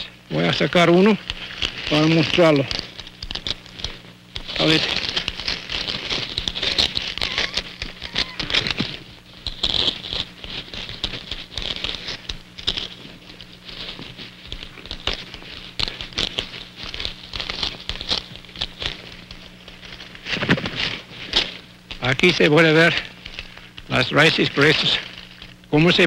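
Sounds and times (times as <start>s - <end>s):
leaves and stems rustling: 0.0s - 26.0s
stems snapping: 0.0s - 26.0s.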